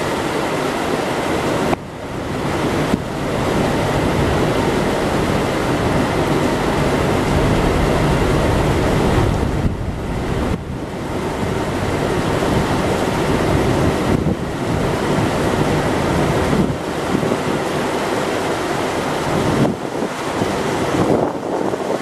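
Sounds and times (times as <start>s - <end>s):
rushing water: 0.0s - 22.0s
wind buffeting microphone: 1.1s - 22.0s.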